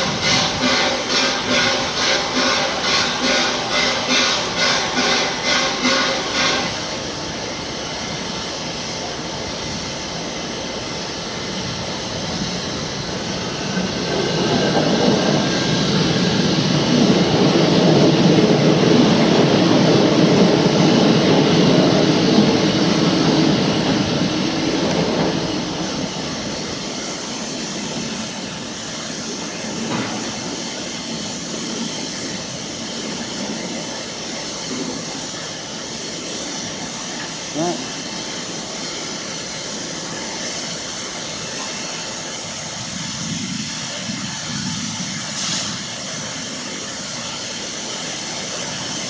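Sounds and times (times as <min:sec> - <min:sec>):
passing train rumble: 0:00.0 - 0:49.0
steam locomotive hissing: 0:00.0 - 0:49.0.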